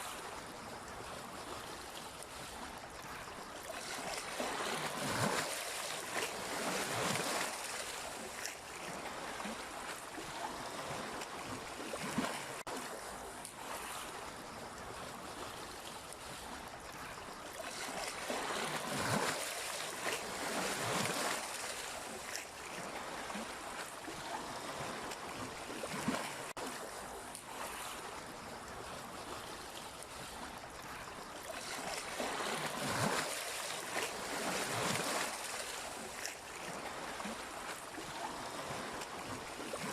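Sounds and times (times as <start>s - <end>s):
sea waves on shore: 0.0s - 39.9s.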